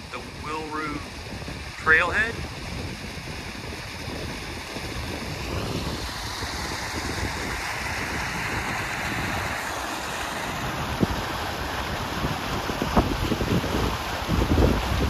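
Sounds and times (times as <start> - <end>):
fast creek water rushing: 0.0 - 15.0
wind rumbling on microphone: 0.0 - 15.0.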